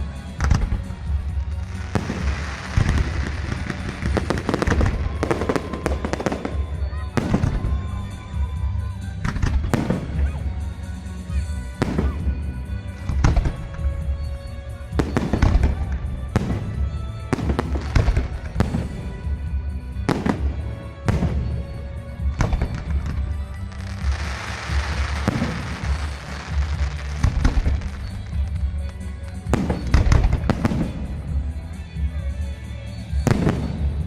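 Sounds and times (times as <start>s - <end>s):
fireworks shells bursting: 0.0s - 8.3s, 11.8s - 31.7s
fireworks crackling: 0.0s - 34.0s.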